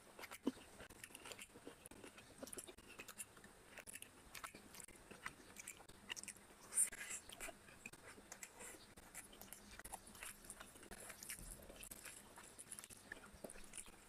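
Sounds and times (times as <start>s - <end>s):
chewing and lip smacks: 0.0s - 14.0s
fingers mixing food wet clicks: 0.0s - 14.0s.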